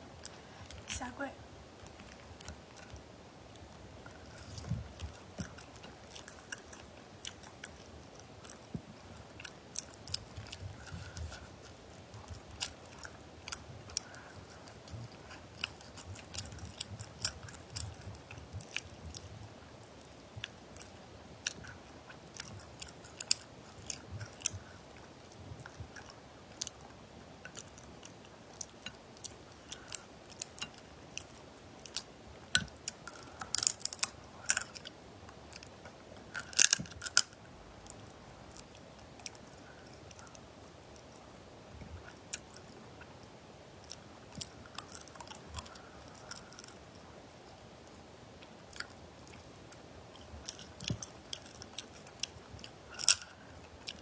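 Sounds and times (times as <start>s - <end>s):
chewing with mouth sounds: 0.0s - 54.0s.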